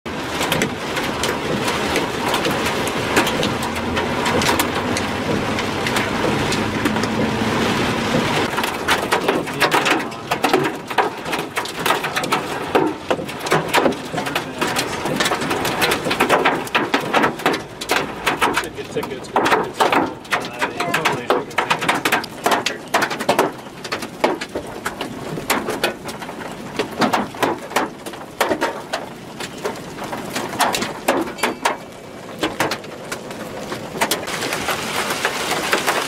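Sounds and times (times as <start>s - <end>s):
hailstones striking car: 0.1s - 36.0s
heavy rain on car: 0.1s - 36.0s.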